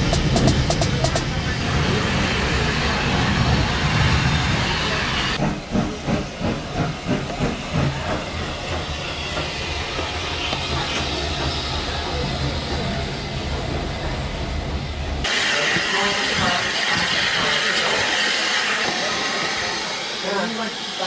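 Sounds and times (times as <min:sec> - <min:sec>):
steam hissing: 0:00.0 - 0:14.5, 0:15.2 - 0:21.0
steam locomotive exhaust chuffs: 0:00.0 - 0:21.0.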